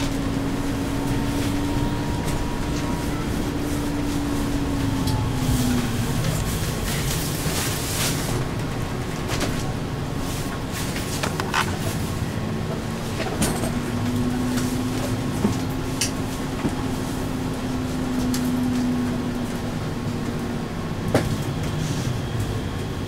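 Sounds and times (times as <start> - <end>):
road rumble: 0.0 - 23.0.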